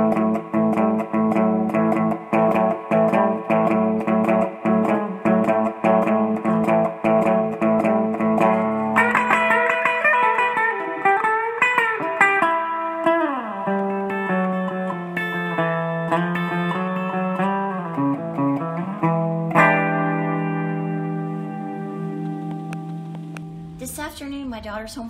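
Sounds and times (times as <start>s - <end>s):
guitar picked notes sliding: 0.0s - 23.8s
guitar chord ringing out: 0.0s - 23.9s.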